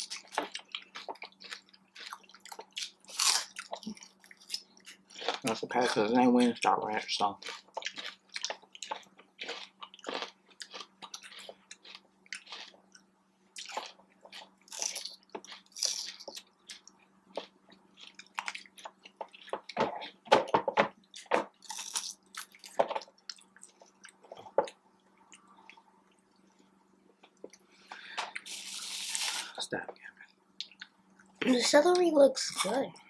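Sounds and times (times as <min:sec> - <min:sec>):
chewing and mouth sounds: 0:00.0 - 0:20.3, 0:21.1 - 0:29.4.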